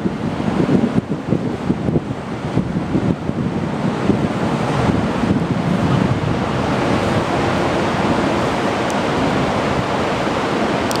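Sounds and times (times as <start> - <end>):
rushing station platform ambience: 0.0 - 11.0.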